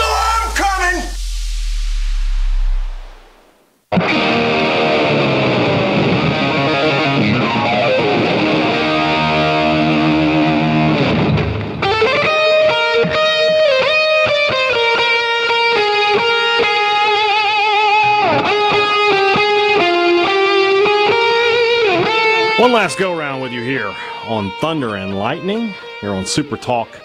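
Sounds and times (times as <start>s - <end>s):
distorted electric guitar chords: 0.0s - 27.0s
lead guitar line with bends: 3.9s - 27.0s.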